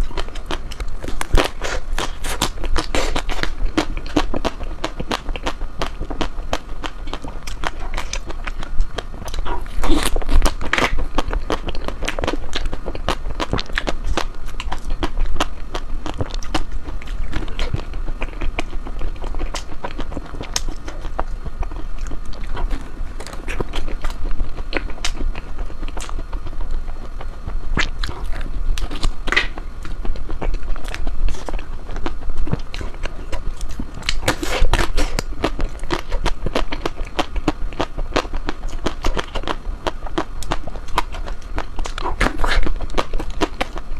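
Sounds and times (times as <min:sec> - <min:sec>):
biting and chewing ice cream: 0:00.0 - 0:43.9.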